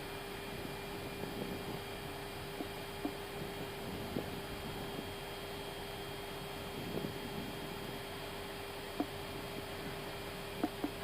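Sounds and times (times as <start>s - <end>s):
cockpit hiss and hum: 0.0s - 11.0s.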